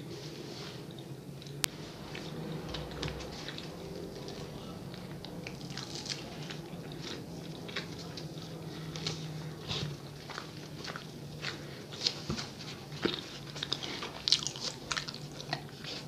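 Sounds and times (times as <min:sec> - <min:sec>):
low hum: 0:00.0 - 0:14.2
chewing soft bread: 0:00.0 - 0:16.0.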